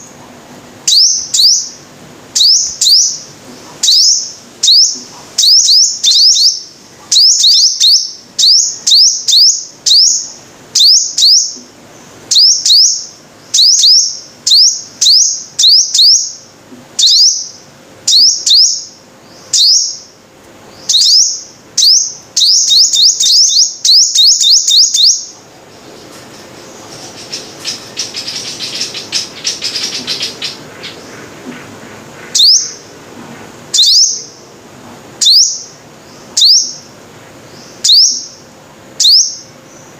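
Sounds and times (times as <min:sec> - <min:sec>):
bird chirping: 0:00.8 - 0:33.0, 0:33.7 - 0:34.5, 0:35.2 - 0:39.9
bird twittering: 0:00.8 - 0:33.0, 0:33.7 - 0:34.5, 0:35.2 - 0:39.9.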